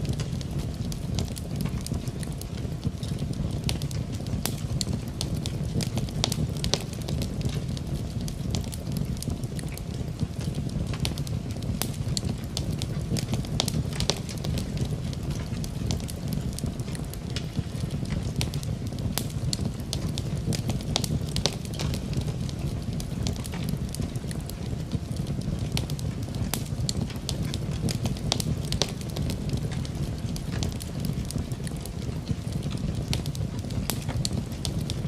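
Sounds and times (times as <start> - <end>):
steady rain: 0.0 - 35.0
wood fire crackling and popping: 0.0 - 35.0.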